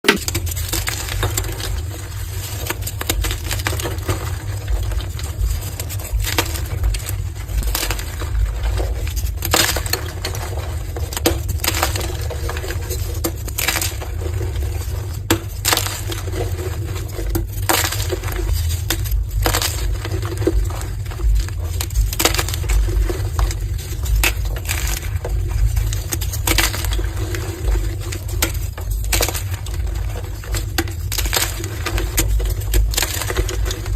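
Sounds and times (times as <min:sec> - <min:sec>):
chalk blocks being crushed: 0:00.0 - 0:33.9.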